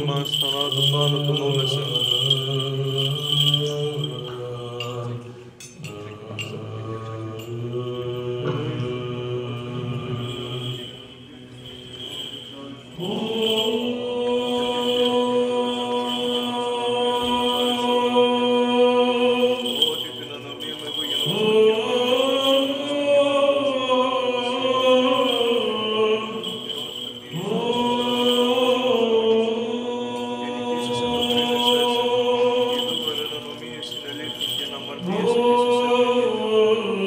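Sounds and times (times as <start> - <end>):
men chanting: 0.0 - 37.0.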